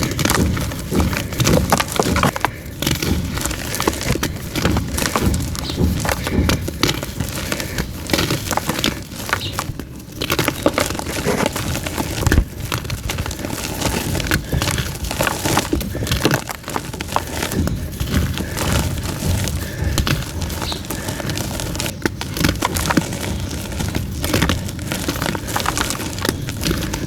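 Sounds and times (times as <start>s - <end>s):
chalk crushing and crumbling: 0.0s - 27.0s.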